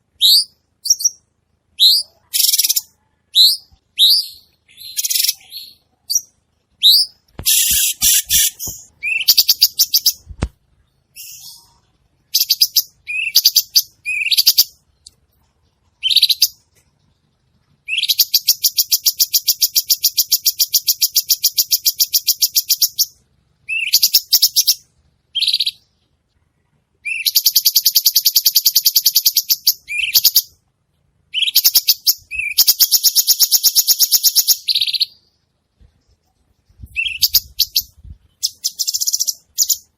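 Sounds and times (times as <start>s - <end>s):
songbird singing trilled phrases: 0.0s - 15.2s, 15.9s - 26.0s, 27.0s - 30.6s, 31.3s - 35.4s, 36.7s - 39.9s.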